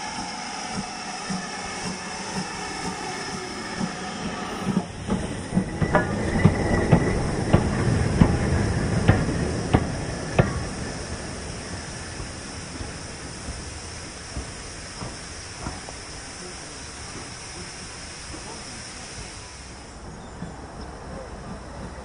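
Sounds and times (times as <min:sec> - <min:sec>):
high squeal: 0:00.0 - 0:19.1
steam locomotive knocks: 0:00.0 - 0:19.4
steam hiss: 0:00.0 - 0:22.0.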